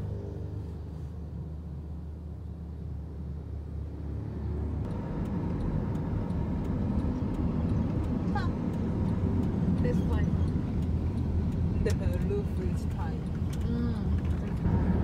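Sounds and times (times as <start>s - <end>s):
car cabin road rumble: 0.0s - 15.0s.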